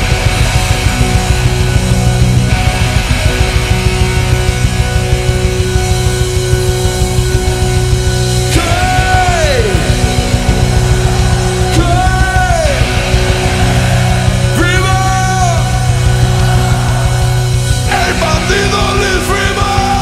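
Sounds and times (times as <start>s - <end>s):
loud rock music: 0.0s - 20.0s.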